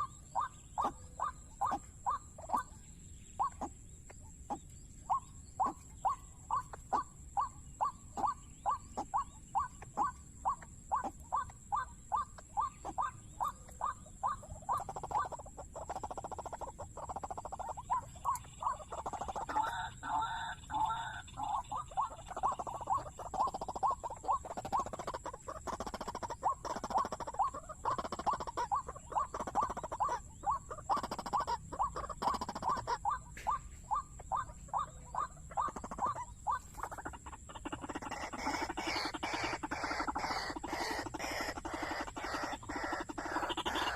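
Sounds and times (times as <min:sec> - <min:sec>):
waterhen calling: 0:00.0 - 0:02.8, 0:05.0 - 0:43.9.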